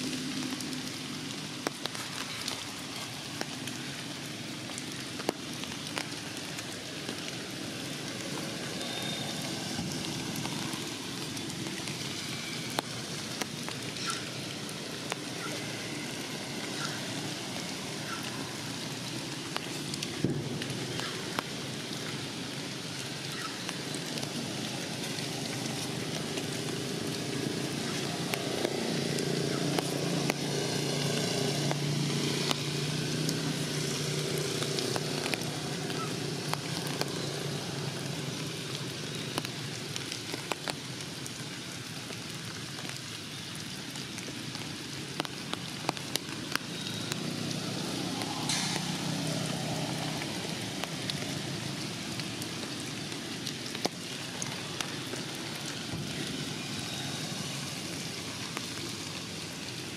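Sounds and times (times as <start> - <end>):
rain falling on leaves: 0.0 - 59.9
sharp drips: 0.0 - 59.9.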